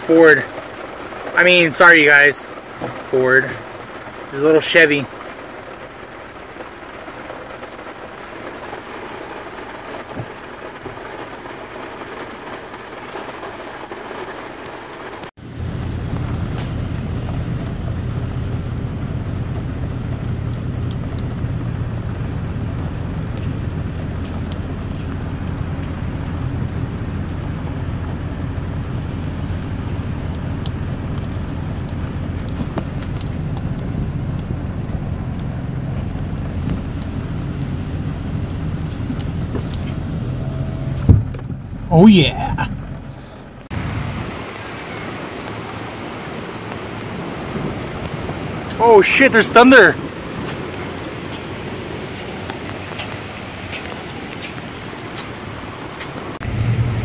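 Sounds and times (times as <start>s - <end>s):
low rumble of car noise: 0.0s - 57.0s
rain on a car: 0.0s - 57.0s
raindrops ticking: 0.0s - 57.0s.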